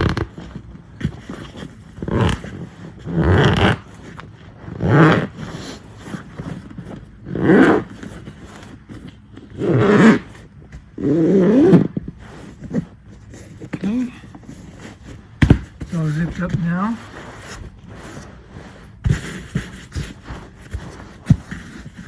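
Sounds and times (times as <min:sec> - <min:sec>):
zipper being pulled closed: 0:00.0 - 0:22.0.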